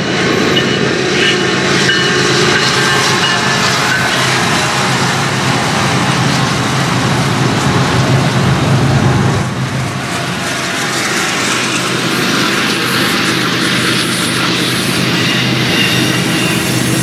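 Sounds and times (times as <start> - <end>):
diesel locomotive engine drone: 0.0 - 17.0
rolling noise of freight cars: 0.0 - 17.0.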